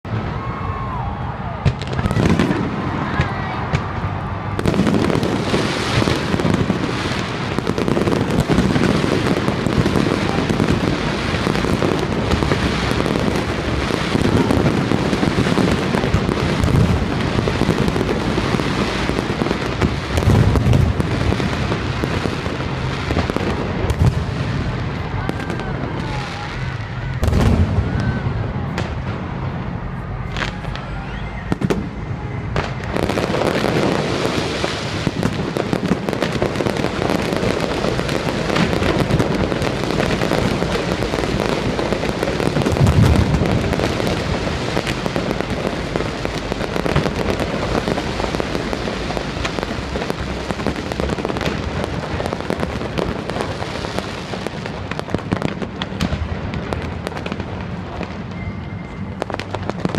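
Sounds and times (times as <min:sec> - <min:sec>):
firework bangs and booms: 0:00.0 - 0:59.9
fireworks crackling: 0:00.0 - 0:59.9.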